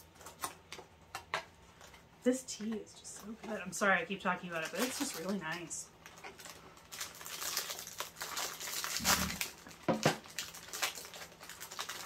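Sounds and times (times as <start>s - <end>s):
plastic packaging crinkling: 0.0s - 2.1s, 3.2s - 12.0s.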